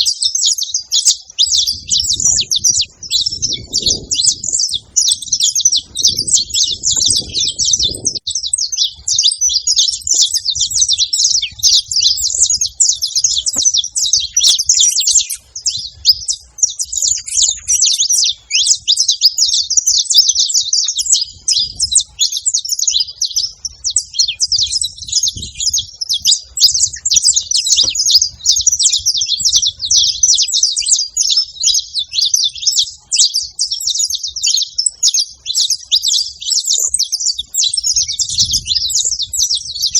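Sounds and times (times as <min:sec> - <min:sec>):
finch singing rapid chirps: 0:00.0 - 0:39.9.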